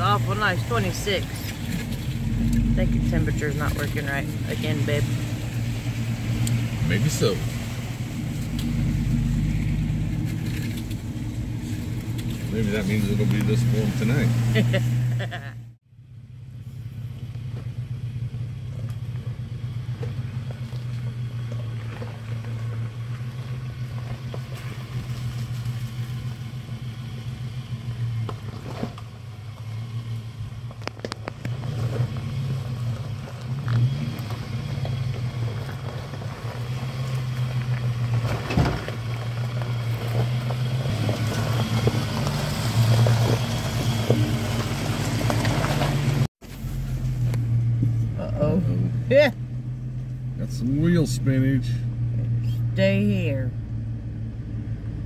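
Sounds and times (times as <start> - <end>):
truck engine at low revs: 0.0 - 55.0.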